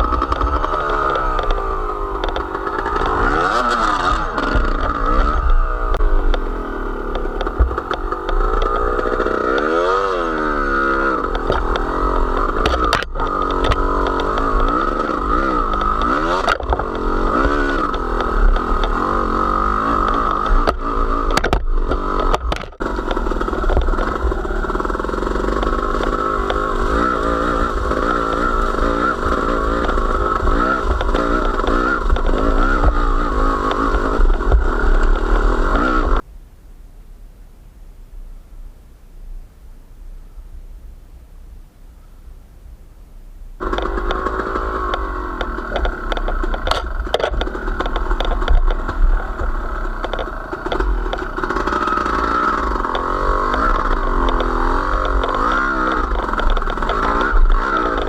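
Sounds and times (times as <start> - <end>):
small engine revving under load: 0.0 - 36.2, 43.6 - 58.0.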